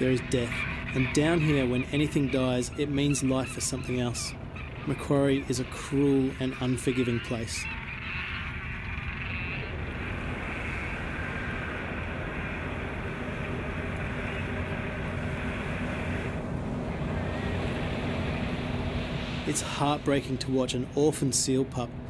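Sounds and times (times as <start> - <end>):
surf: 0.0 - 21.8
wind: 0.0 - 22.0.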